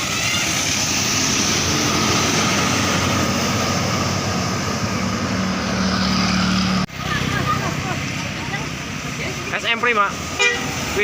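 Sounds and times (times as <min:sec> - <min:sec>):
bus engine running: 0:00.0 - 0:11.0.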